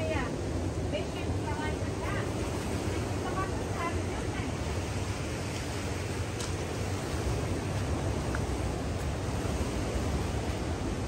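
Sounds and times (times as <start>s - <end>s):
sea surf: 0.0s - 11.0s
wind: 0.0s - 11.0s.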